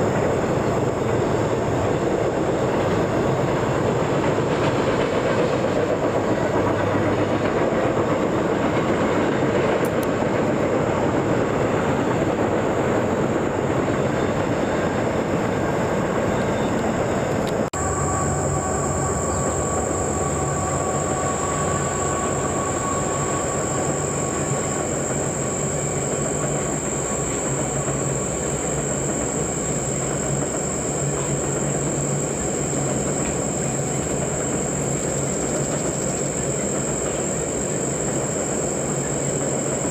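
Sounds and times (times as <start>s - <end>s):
high steady whine: 0.0s - 39.9s
train rolling past: 0.0s - 39.9s.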